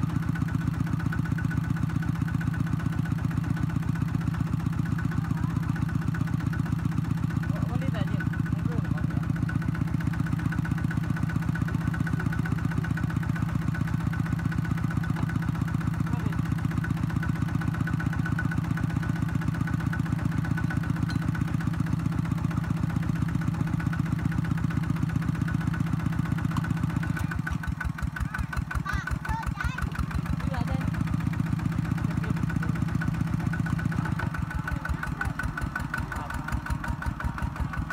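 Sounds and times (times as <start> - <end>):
diesel hand tractor engine running: 0.0 - 37.9.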